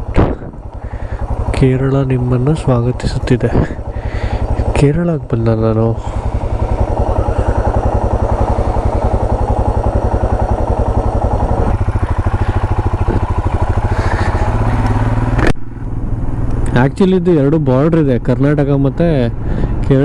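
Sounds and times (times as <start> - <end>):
motorcycle engine thumping at low revs: 0.0 - 16.9.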